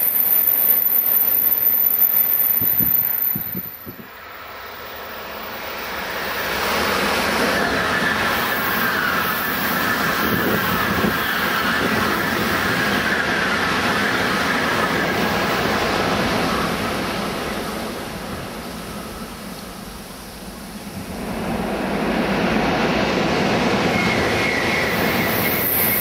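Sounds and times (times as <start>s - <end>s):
high-speed train passing: 0.0s - 26.0s.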